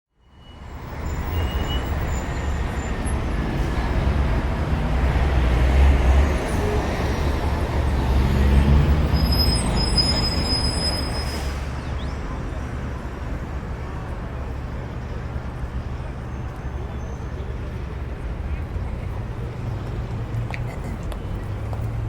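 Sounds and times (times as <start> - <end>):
low rumble of traffic: 0.2 - 22.0.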